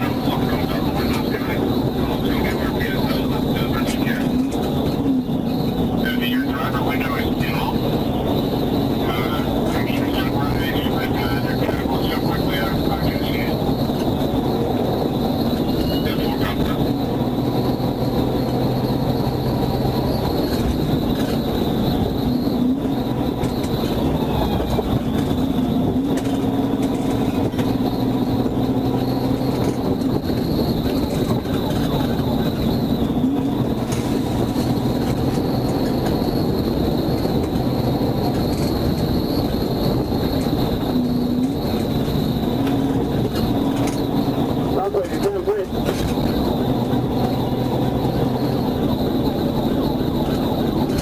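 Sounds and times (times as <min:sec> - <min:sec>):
faint steady whine: 0:00.0 - 0:51.0
vehicle road and engine rumble: 0:00.0 - 0:51.0.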